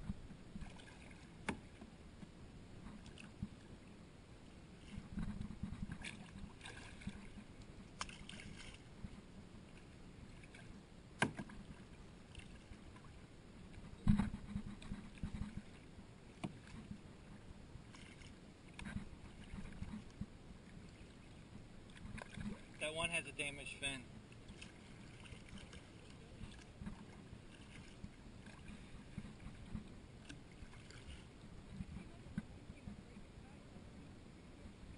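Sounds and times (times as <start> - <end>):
paddle strokes splashing in water: 0.0 - 2.0, 2.8 - 3.7, 4.7 - 32.2.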